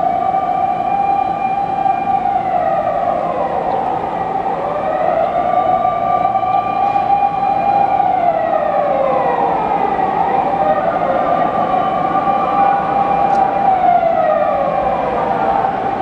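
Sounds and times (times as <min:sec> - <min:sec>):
wailing siren: 0:00.0 - 0:16.0.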